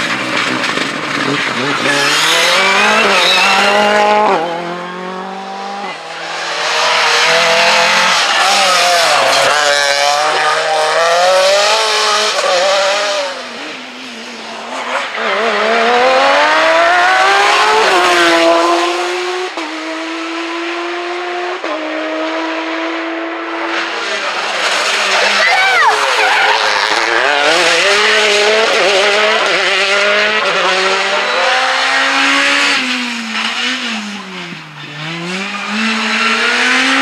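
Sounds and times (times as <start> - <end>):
engine upshifts: 0.0 - 37.0
rally car engines revving: 0.0 - 37.0.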